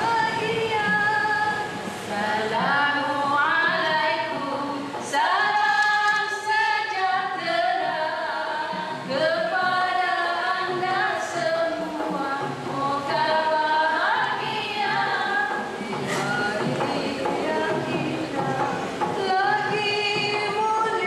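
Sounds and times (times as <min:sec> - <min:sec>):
women singing together: 0:00.0 - 0:21.0.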